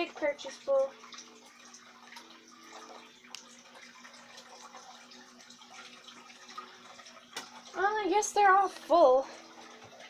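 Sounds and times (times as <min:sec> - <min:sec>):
small water drips: 0:00.0 - 0:10.0
water trickling: 0:00.0 - 0:10.0.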